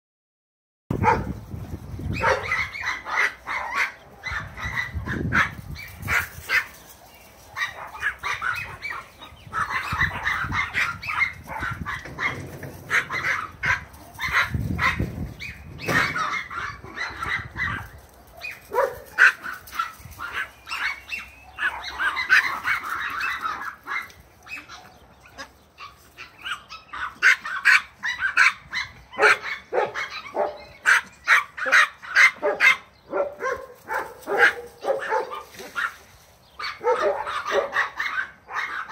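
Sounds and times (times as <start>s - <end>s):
dogs play-barking: 1.0s - 1.4s, 2.2s - 36.0s, 36.6s - 38.9s.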